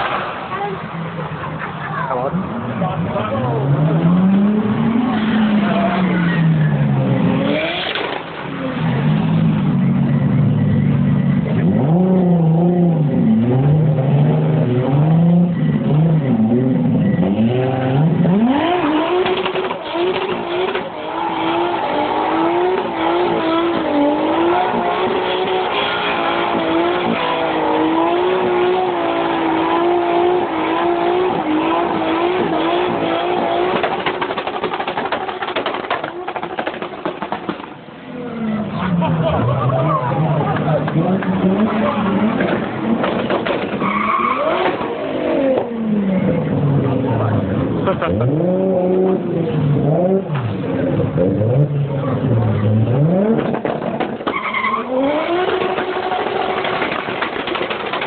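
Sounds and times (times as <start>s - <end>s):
car engine revving: 0.0s - 58.0s
tyres spinning in burnout: 0.0s - 58.0s.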